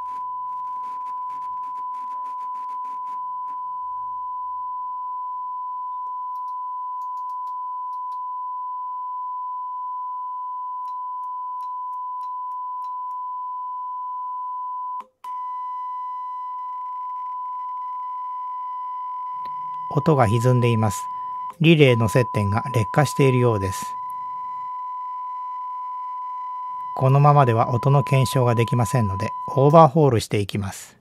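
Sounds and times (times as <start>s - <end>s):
sine test tone: 0.0s - 29.8s.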